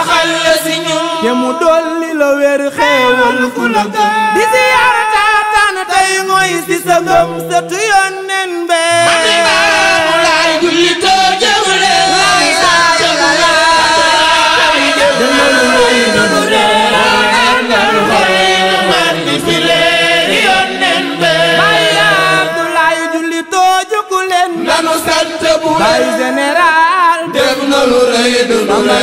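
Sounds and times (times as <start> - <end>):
voices singing a chant: 0.0 - 29.0.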